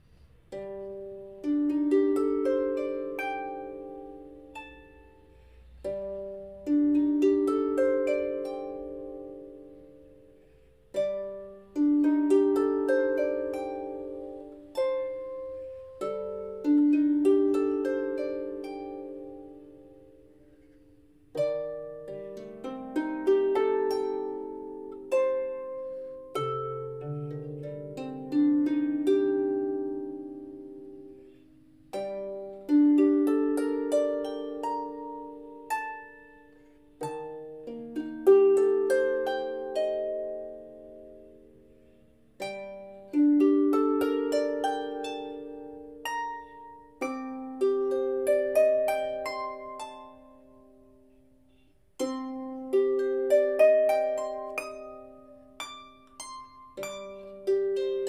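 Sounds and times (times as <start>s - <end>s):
solo harp playing: 0.0s - 58.0s.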